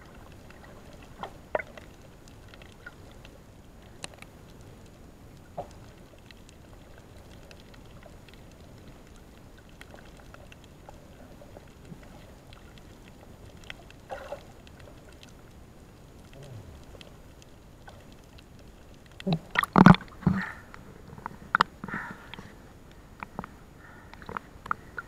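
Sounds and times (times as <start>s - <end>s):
faint clicks and crackles: 0.0s - 25.0s
muffled underwater rush: 0.0s - 25.0s.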